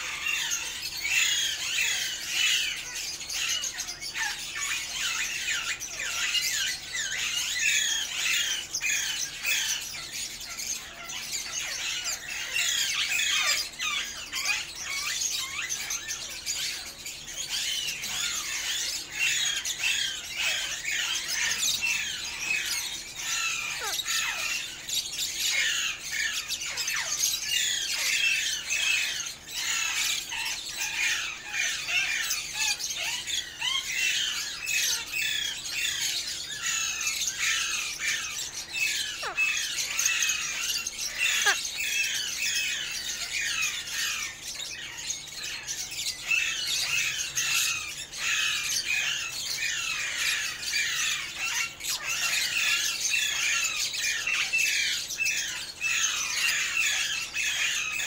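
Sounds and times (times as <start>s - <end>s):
parrots squawking and chirping: 0.0s - 58.0s.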